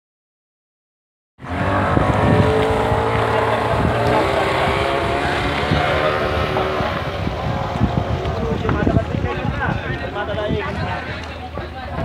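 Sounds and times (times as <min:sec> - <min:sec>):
wind buffeting microphone: 0:01.4 - 0:12.0.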